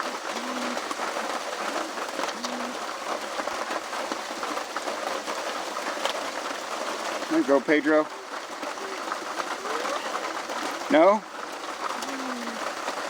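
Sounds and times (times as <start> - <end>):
heavy rain patter: 0.0 - 13.0.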